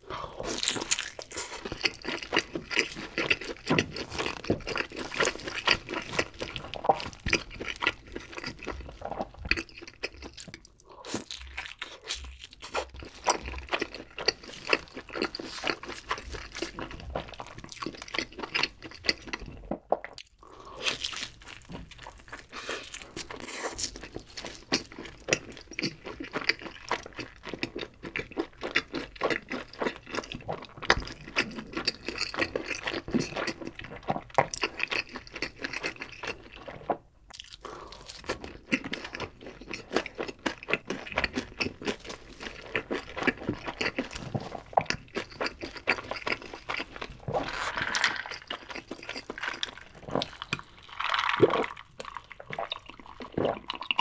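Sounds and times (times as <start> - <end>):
crisp crunching and chewing: 0.0 - 54.0.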